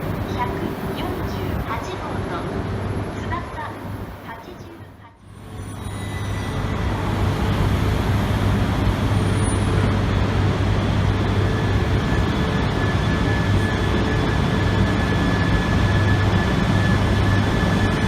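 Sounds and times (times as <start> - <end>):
train running with low hum: 0.0 - 18.0.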